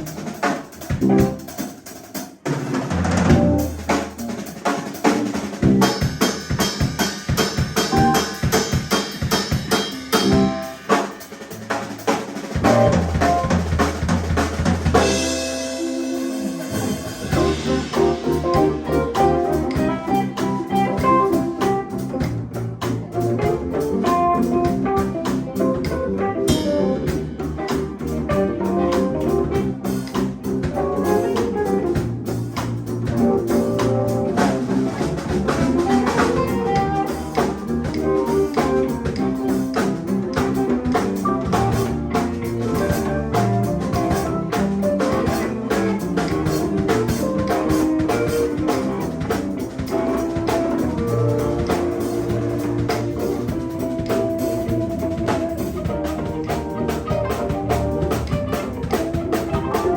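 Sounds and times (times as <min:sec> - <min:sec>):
electric guitar: 0:00.0 - 0:02.0, 0:02.7 - 0:59.9
live band jazzy blues: 0:00.0 - 0:59.9.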